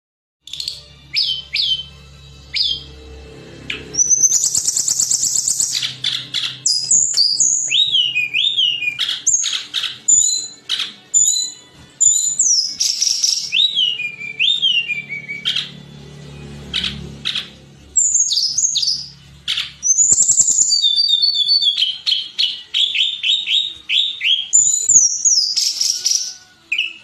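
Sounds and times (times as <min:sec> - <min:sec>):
songbird singing: 0:00.4 - 0:27.0.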